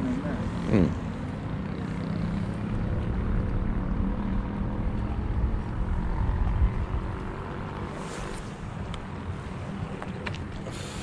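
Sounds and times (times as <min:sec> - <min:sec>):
low motor drone: 0:00.0 - 0:11.0.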